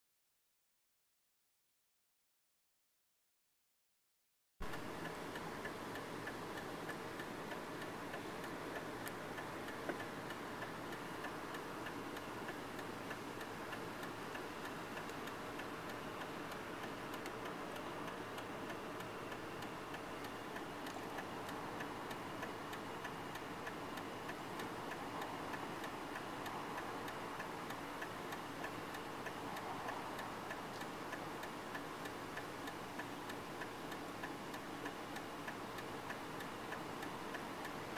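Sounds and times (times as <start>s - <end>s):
car interior noise: 4.6s - 37.9s
faint regular ticking: 4.6s - 37.9s.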